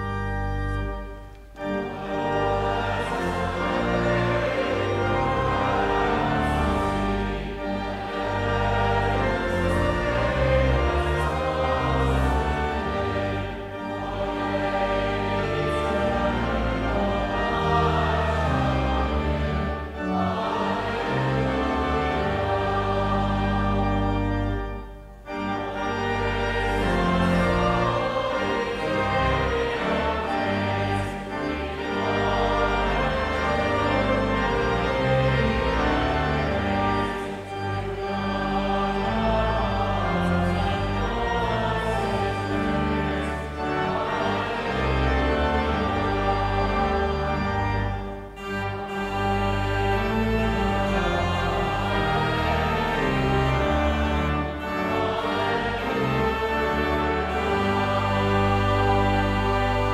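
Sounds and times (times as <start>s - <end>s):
congregation singing a hymn: 0.0s - 59.9s
pipe organ: 0.0s - 59.9s.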